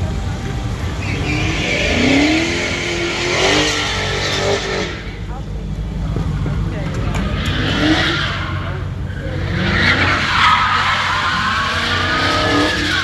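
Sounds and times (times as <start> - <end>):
car engine under hard throttle: 0.0 - 13.0
tyres squealing: 0.0 - 13.0.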